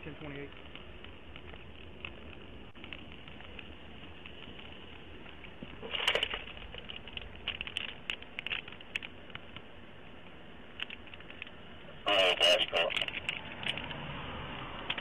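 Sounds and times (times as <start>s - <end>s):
microphone handling clicks and rustling: 0.4s - 14.0s.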